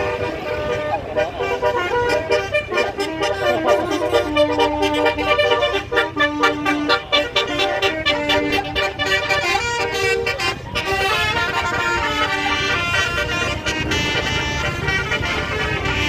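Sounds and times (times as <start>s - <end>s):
engine rumbling: 0.0s - 16.0s
melodic vehicle horn: 0.0s - 16.0s.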